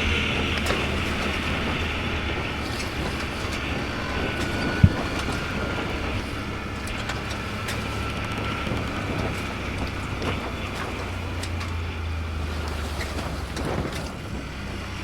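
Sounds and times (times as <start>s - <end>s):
engine hum: 0.0s - 15.0s
road noise: 0.0s - 15.0s.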